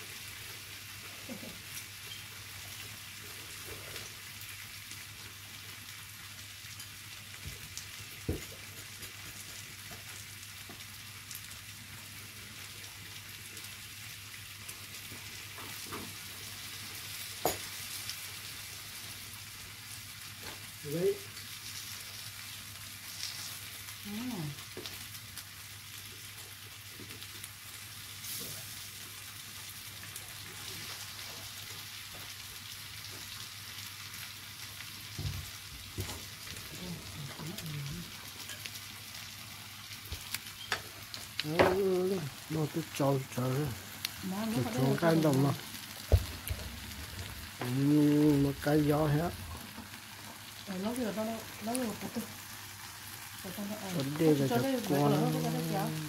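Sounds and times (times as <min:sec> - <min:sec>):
food sizzling on a grill pan: 0:00.0 - 0:56.0.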